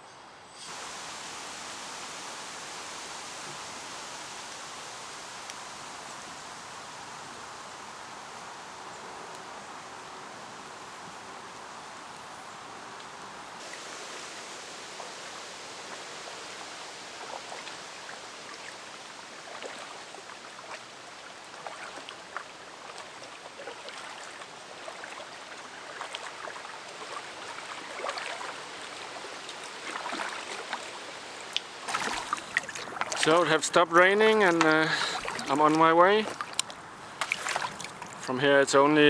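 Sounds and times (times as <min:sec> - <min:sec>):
drips and small splashes: 0:00.6 - 0:38.4
flowing river water: 0:00.6 - 0:39.0.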